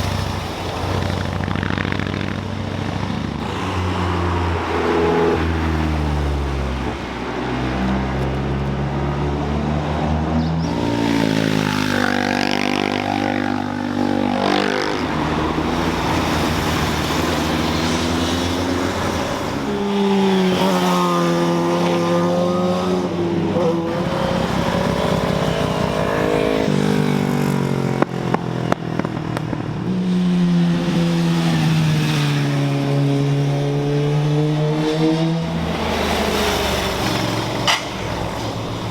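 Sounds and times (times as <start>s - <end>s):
sports car engines revving: 0.0s - 38.9s.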